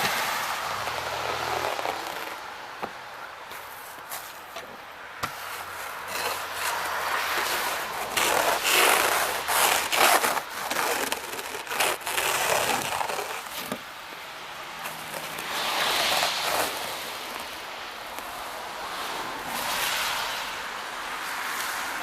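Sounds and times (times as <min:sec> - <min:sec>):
scraping snow off a car: 0:00.0 - 0:02.5, 0:03.5 - 0:13.8, 0:14.8 - 0:20.6.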